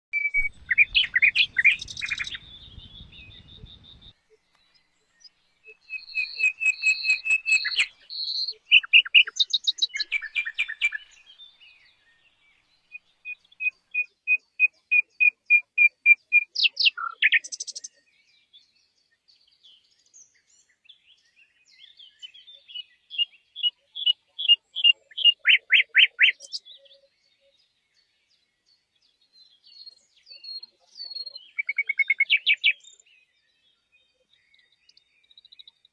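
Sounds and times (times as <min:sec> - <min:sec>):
songbird singing: 0:00.2 - 0:35.9.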